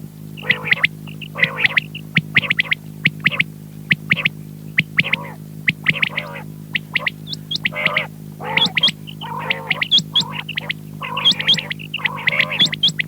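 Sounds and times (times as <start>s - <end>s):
electrical hum: 0.0s - 13.0s
quail calling: 0.3s - 13.0s.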